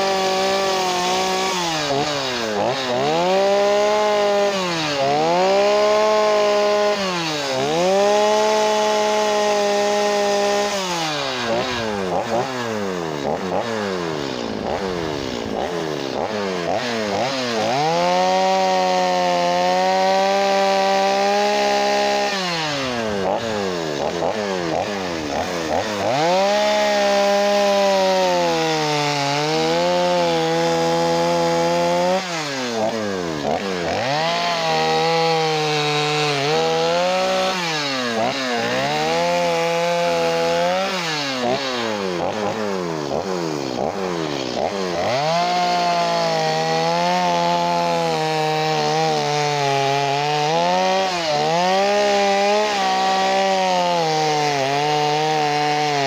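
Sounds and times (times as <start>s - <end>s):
chainsaw revving while carving wood: 0.0s - 56.0s.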